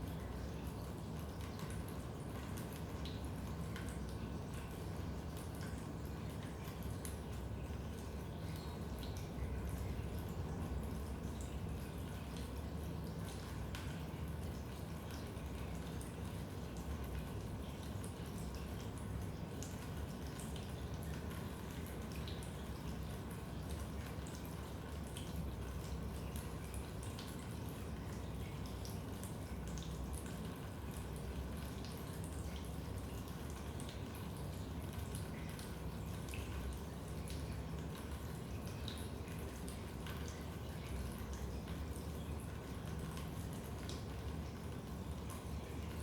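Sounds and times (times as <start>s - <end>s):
water dripping and ticking: 0.0s - 46.0s
water rushing in pipes: 0.0s - 46.0s.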